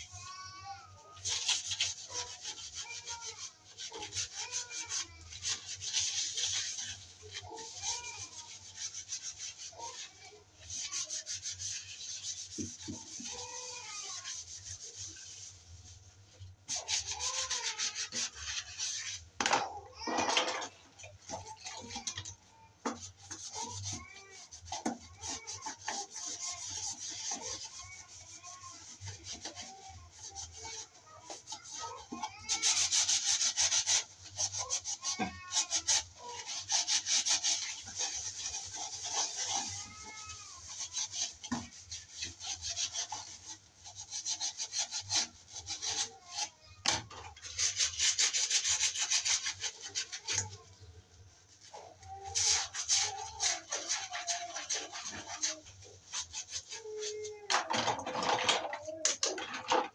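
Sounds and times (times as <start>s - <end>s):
sponge scrubbing a plastic jug: 0.0s - 59.9s.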